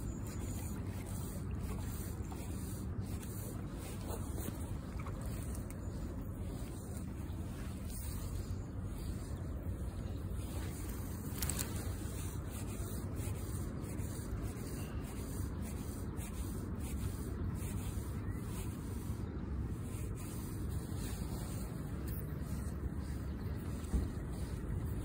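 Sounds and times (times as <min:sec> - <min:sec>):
handling ticks and rubbing: 0:00.0 - 0:25.0
low background rumble: 0:00.0 - 0:25.0.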